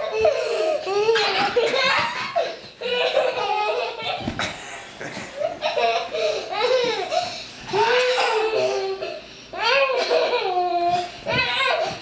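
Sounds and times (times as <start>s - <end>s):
young children laughing: 0.0s - 12.0s.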